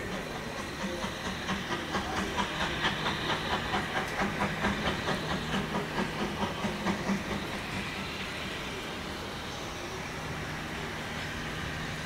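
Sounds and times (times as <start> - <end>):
steam locomotive exhaust beats: 0.0 - 12.0.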